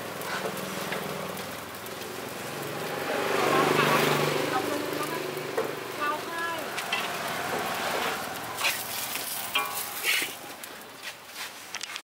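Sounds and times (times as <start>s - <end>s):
batter sizzling in a wok: 0.0s - 12.0s.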